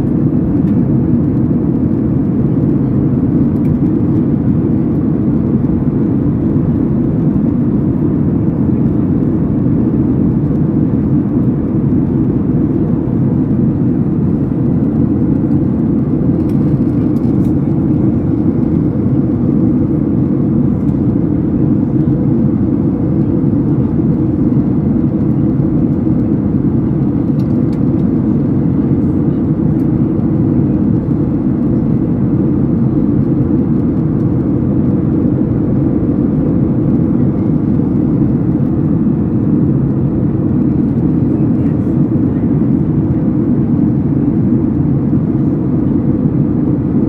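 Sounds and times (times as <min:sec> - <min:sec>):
jet airliner cabin roar: 0:00.0 - 0:47.0.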